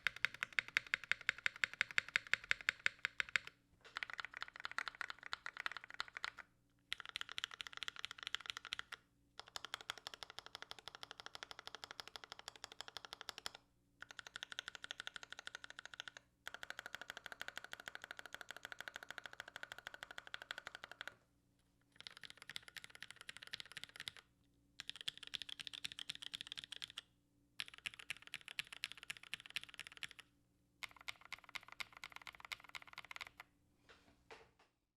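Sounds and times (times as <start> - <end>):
mechanical keyboard typing: 0.0 - 21.2, 21.9 - 24.2, 24.8 - 27.0, 27.6 - 30.2, 30.8 - 33.4.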